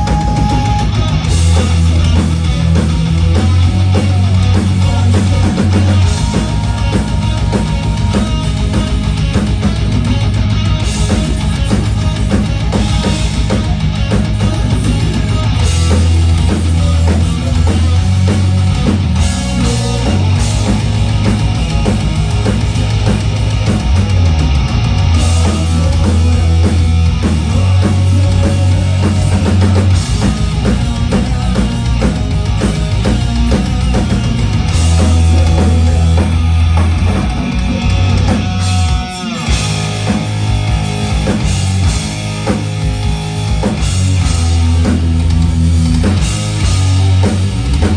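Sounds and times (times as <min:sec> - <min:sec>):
distorted electric guitar: 0:00.0 - 0:47.9
drum kit: 0:00.0 - 0:47.9
heavy bass line: 0:00.0 - 0:47.9.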